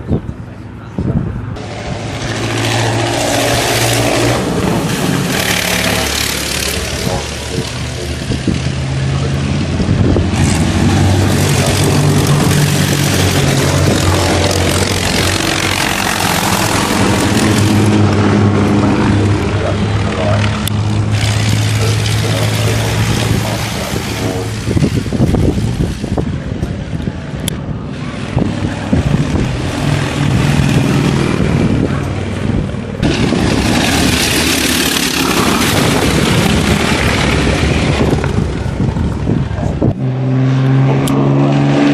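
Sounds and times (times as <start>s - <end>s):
sports car engines revving: 0.0s - 41.9s.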